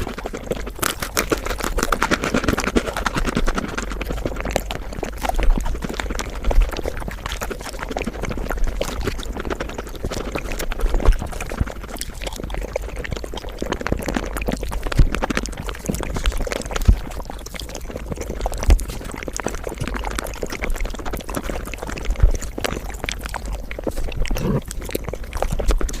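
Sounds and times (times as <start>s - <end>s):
sped-up chewing crackles: 0.0s - 26.0s.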